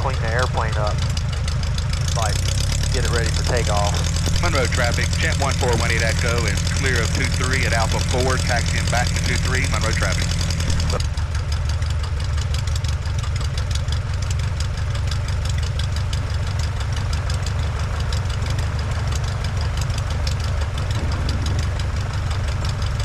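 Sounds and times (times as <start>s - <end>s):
small plane engine taxiing: 0.0s - 23.0s.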